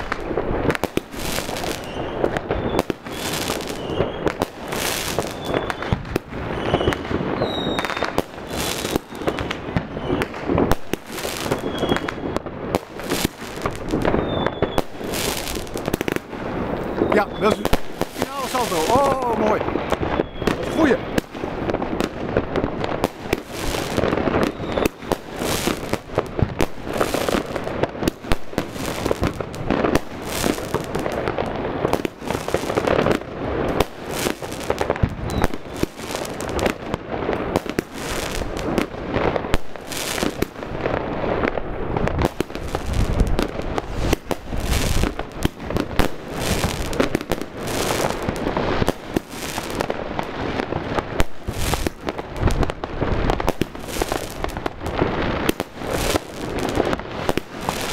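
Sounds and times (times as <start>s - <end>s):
firework stars popping: 0.0s - 57.9s
fireworks shots and bursts: 0.0s - 57.9s.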